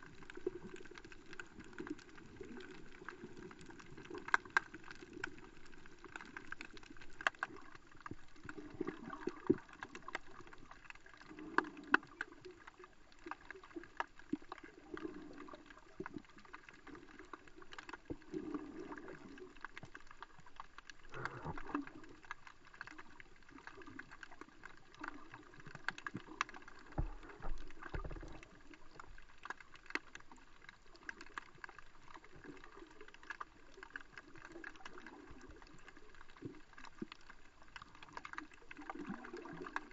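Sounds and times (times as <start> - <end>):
muffled underwater wash: 0.0 - 39.9
sharp clicks and crackles: 0.0 - 39.9.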